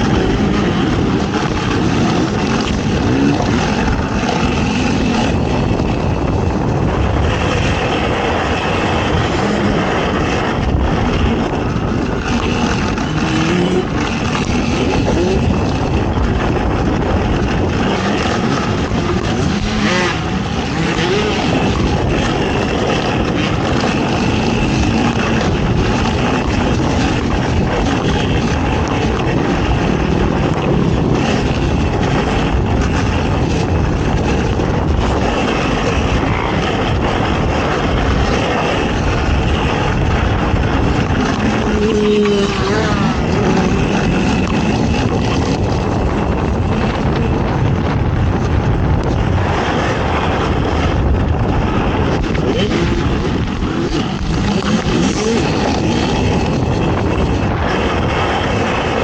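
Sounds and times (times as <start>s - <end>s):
atv engine running hard: 0.0s - 59.0s.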